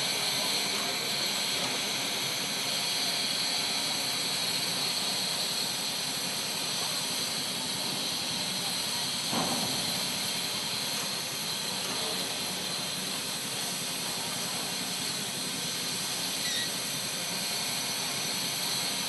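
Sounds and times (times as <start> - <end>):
steam locomotive hissing: 0.0 - 19.0.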